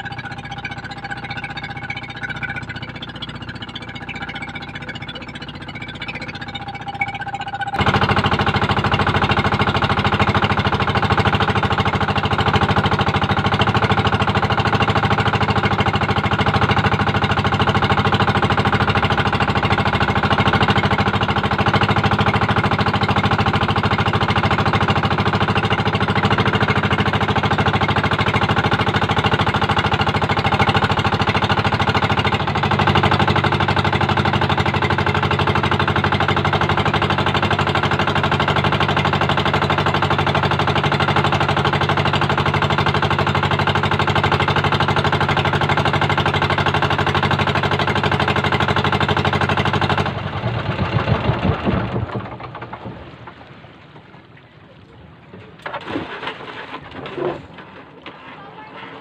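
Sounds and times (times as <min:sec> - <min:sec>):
small boat engine running: 0:00.0 - 0:59.0.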